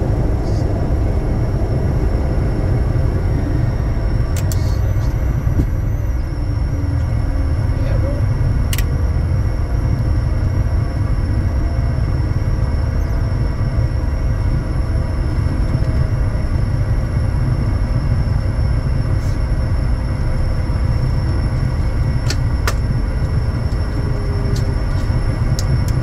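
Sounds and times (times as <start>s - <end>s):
jet cockpit engine rumble: 0.0s - 26.0s.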